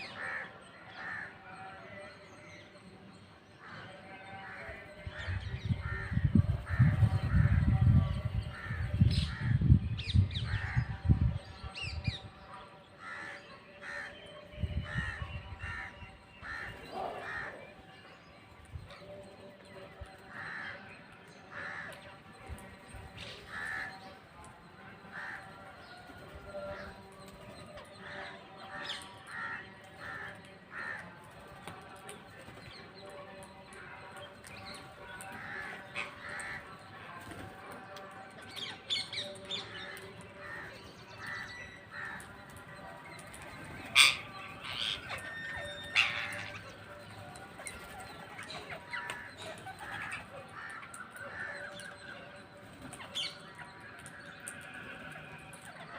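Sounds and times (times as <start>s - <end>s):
birds with harsh calls: 0.0s - 55.9s.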